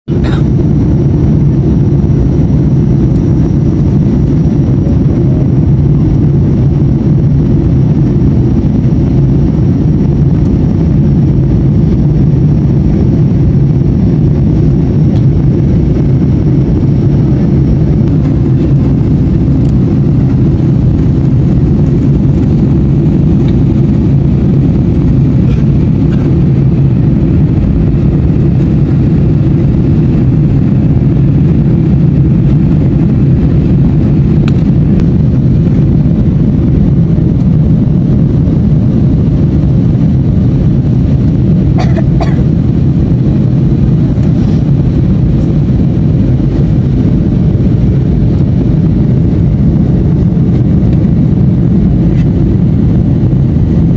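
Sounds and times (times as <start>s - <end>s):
airliner cabin engine roar: 0.0s - 53.9s.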